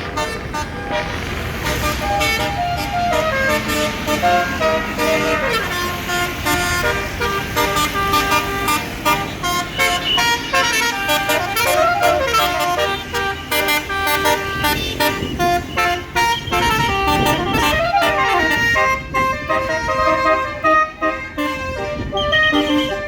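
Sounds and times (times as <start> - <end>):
bus engine running: 0.0 - 23.0
multi-tone air horns playing tune: 0.0 - 23.0.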